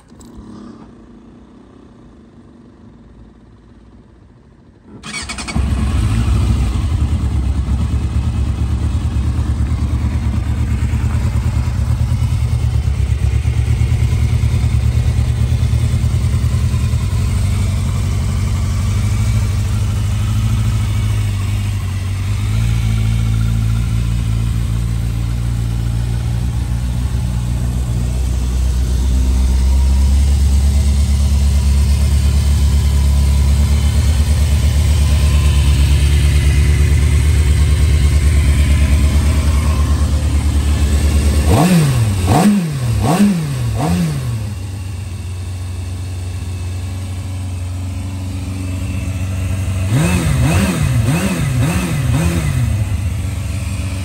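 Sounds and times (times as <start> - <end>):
motorcycle engine starting and running: 0.0 - 54.0.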